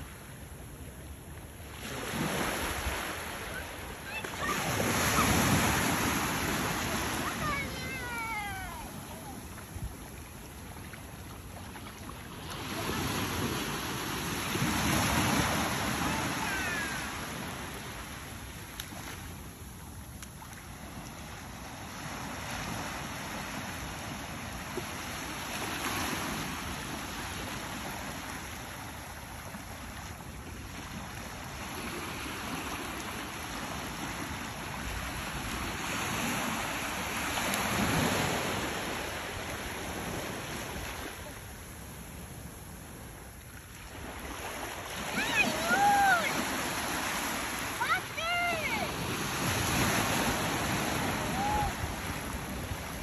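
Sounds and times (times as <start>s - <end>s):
waves breaking on beach: 0.0s - 53.0s.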